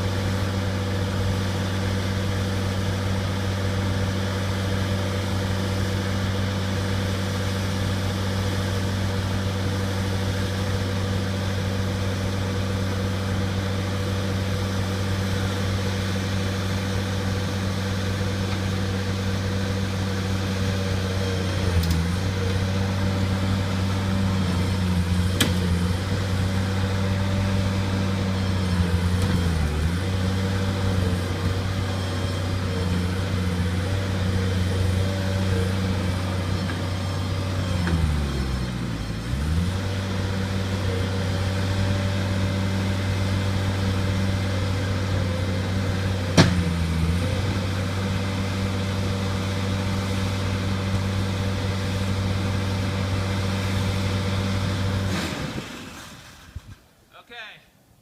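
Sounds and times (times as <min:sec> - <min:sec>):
loader engine running: 0:00.0 - 0:56.8.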